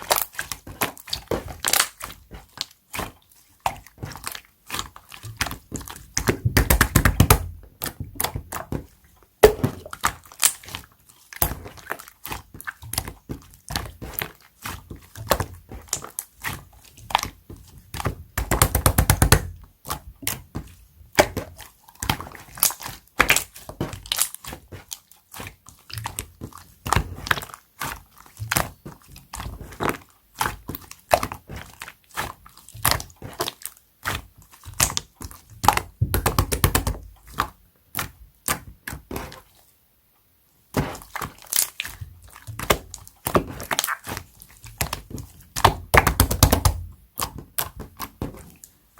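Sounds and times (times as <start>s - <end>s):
slime squelching with wet pops: 0.0s - 39.7s, 40.6s - 48.8s.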